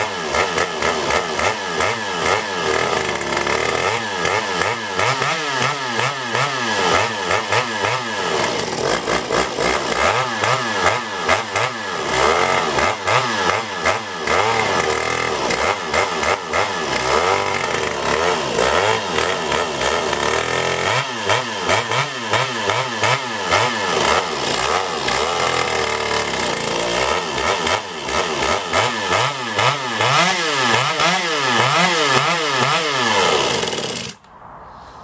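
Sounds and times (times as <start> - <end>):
chainsaw engine revving: 0.0 - 34.2.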